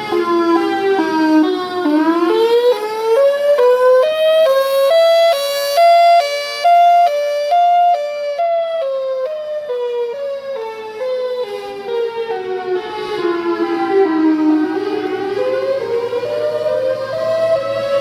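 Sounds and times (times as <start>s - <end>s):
warning siren alternating wail: 0.0s - 18.0s.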